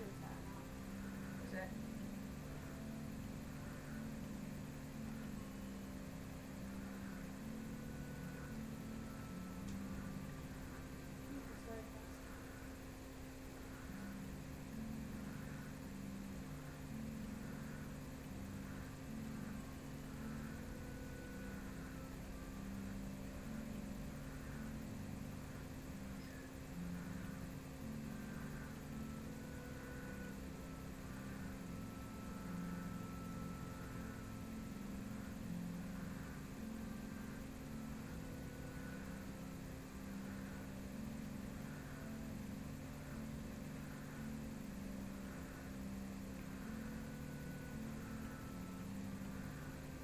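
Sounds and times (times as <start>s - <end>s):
intermittent low tones: 0.0s - 50.0s
steady low hum: 0.0s - 50.0s.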